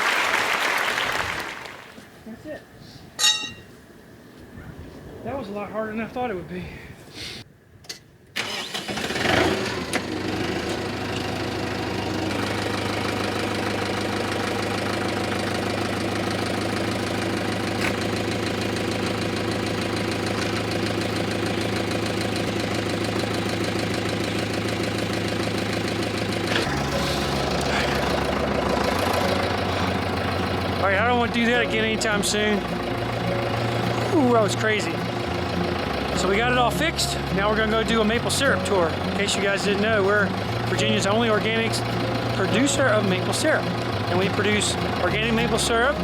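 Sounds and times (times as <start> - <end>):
engine starting and idling: 8.4 - 46.0.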